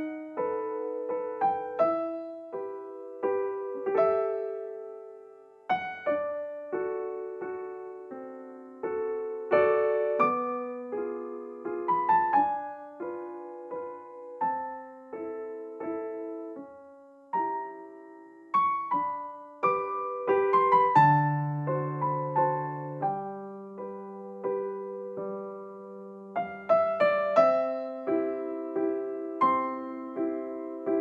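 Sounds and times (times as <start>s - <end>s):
slow gentle piano: 0.0s - 31.0s.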